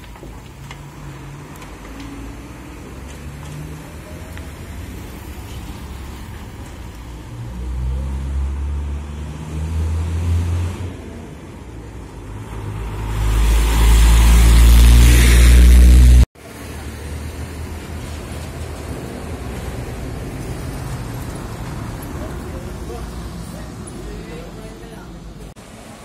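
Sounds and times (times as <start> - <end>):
quiet traffic noise: 0.0 - 26.0
truck tyre noise: 0.0 - 26.0
truck engine passing: 0.7 - 24.6.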